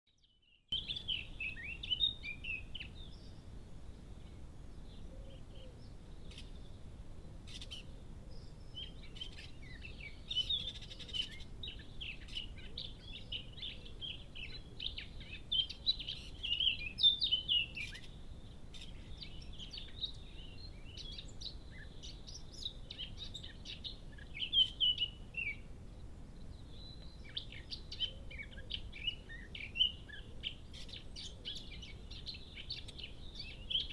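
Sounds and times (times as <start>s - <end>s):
bird warbling song: 0.1s - 33.9s.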